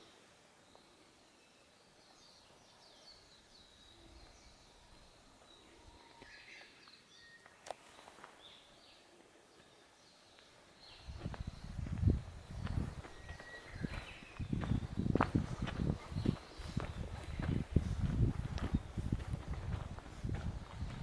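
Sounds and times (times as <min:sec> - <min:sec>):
birds chirping and trilling: 0:00.0 - 0:21.0
quiet forest ambience: 0:00.0 - 0:21.0.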